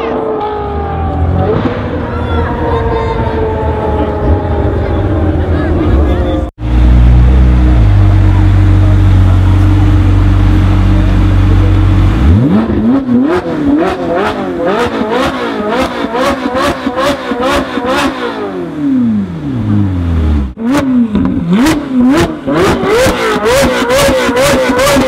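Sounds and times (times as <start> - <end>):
sports car engine revving: 3.3 - 25.0.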